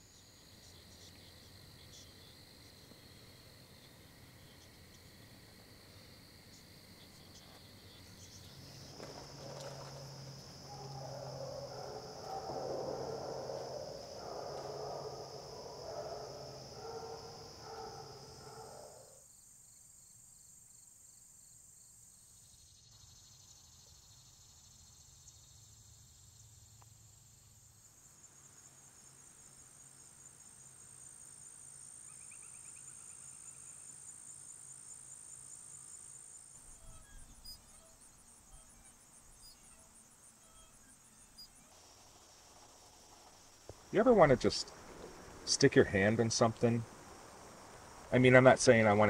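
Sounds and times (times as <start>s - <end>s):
crickets and insects trilling: 0.0s - 49.0s.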